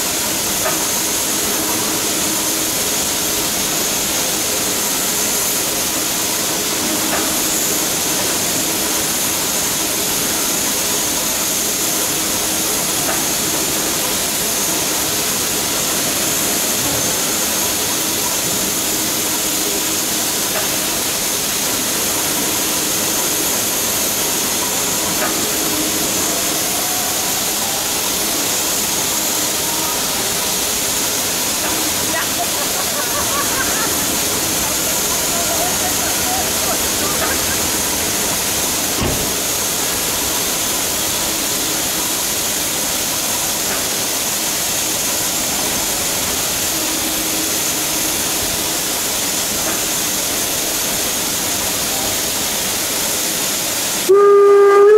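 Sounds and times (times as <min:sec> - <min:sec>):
steam hissing: 0:00.0 - 0:54.9.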